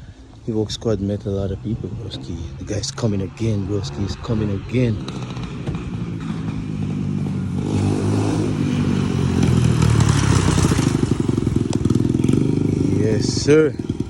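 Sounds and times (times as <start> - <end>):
motorcycle engine approaching: 0.0 - 14.0.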